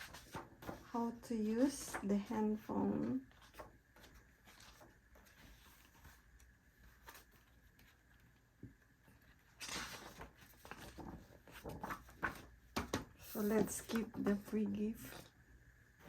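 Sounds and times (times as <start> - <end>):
paper and packaging rustling: 0.0 - 8.4, 9.1 - 15.4.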